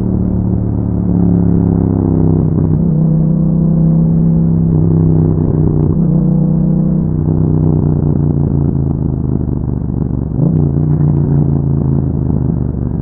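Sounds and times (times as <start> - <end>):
motorcycle exhaust note: 0.0 - 13.0.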